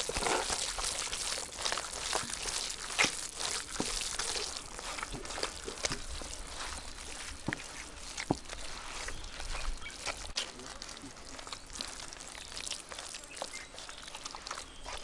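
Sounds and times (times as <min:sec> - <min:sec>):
hand squelching wet marinade: 0:00.0 - 0:15.0.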